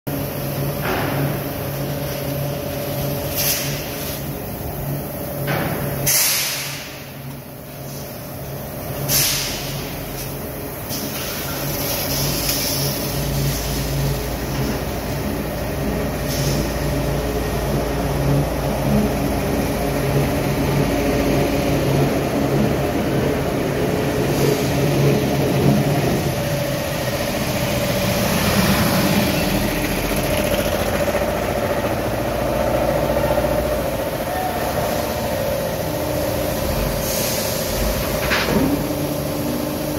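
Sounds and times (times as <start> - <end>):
steady machine hum: 0.1 - 9.1, 9.7 - 39.9.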